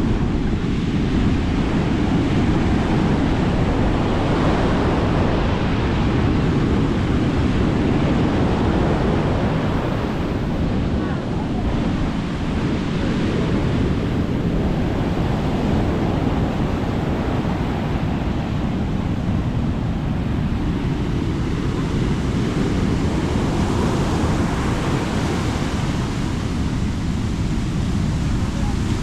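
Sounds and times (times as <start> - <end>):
sea waves breaking on beach: 0.0 - 29.0
wind rumbling on microphone: 0.0 - 29.0.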